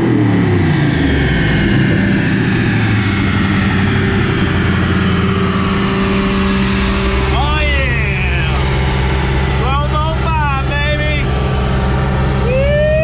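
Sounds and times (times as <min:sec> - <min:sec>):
small gas engine idling: 0:00.0 - 0:13.0.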